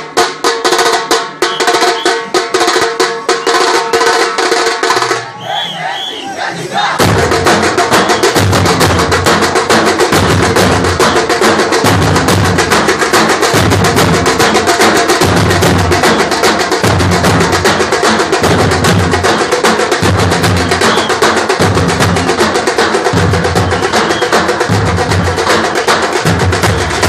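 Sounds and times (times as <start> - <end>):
band of large drums beating: 0.0 - 27.0.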